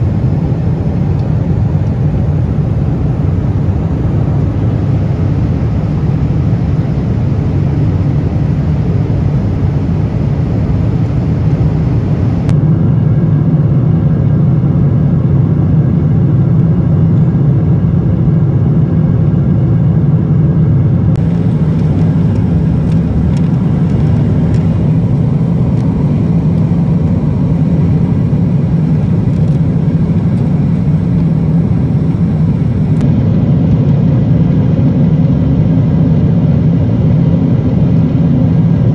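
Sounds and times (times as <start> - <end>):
airflow over fuselage: 0.0 - 38.9
airplane cabin engine roar: 0.0 - 38.9.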